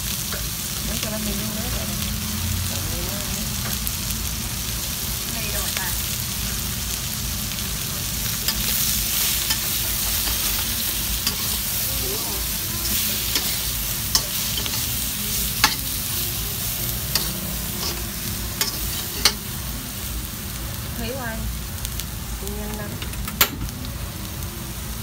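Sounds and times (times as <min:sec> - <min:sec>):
food sizzling in a wok: 0:00.0 - 0:25.0.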